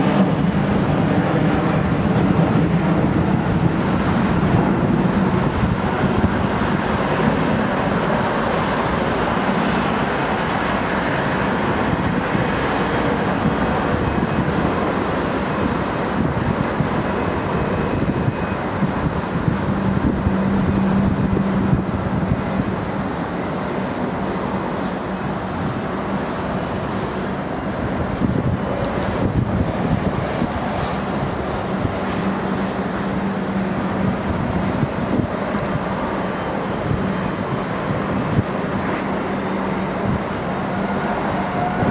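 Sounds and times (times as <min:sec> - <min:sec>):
jet engines running: 0:00.0 - 0:41.9
wind buffeting microphone: 0:00.0 - 0:41.9.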